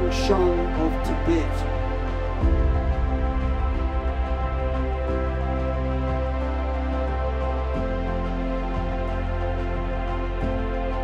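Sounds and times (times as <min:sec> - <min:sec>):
deep steady bass: 0:00.0 - 0:11.0
soft pad chords: 0:00.0 - 0:11.0.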